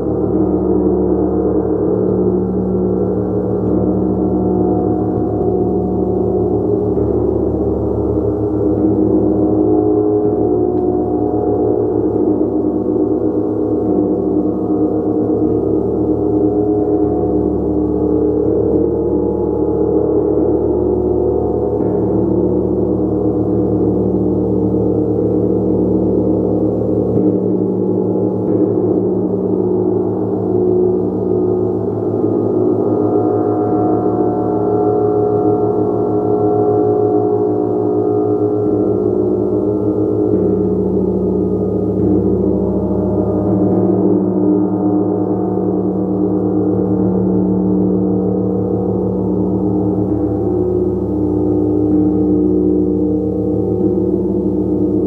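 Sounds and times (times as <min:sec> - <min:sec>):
large gong shimmering: 0:00.0 - 0:55.0.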